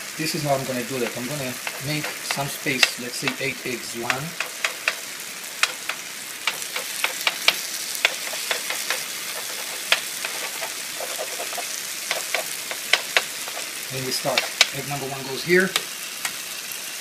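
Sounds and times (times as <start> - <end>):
sauce sizzling in a pan: 0.0 - 17.0
spoon scraping a pan: 0.6 - 15.0.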